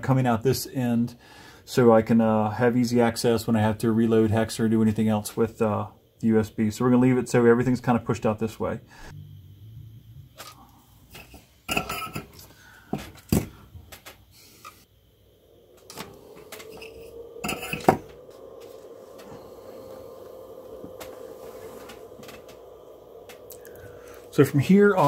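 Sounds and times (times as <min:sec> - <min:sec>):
steady hum: 0:00.1 - 0:25.0.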